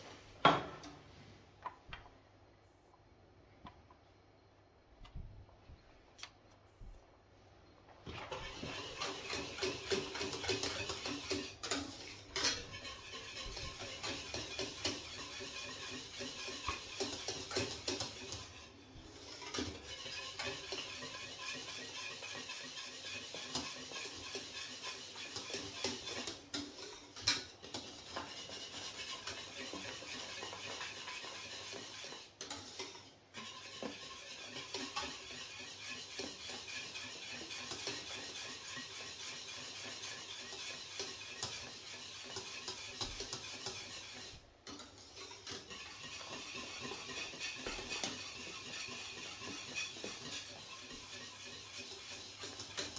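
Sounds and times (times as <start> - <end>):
wire whisk scraping a metal pan: 8.2 - 52.9.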